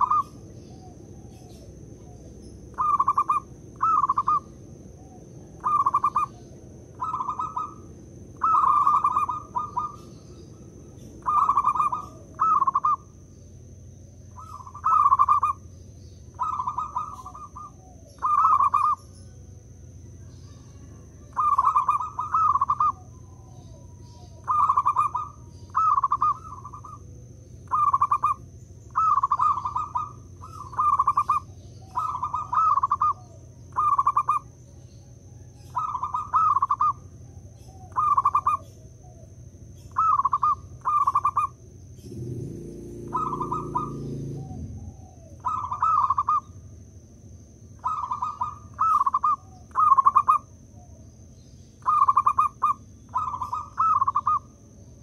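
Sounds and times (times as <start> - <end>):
dove cooing: 0.0 - 13.3, 14.3 - 46.8, 47.7 - 51.2, 51.8 - 55.0.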